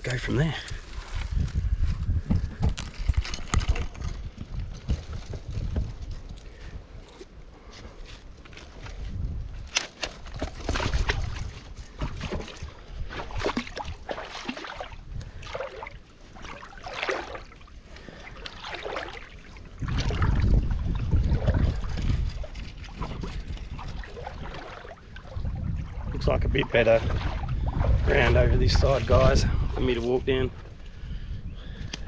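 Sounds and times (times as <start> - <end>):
water sloshing and splashing: 2.7 - 30.8.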